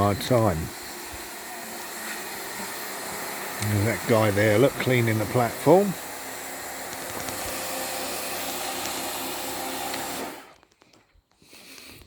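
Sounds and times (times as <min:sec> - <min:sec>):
leaf blower running: 0:00.0 - 0:10.6.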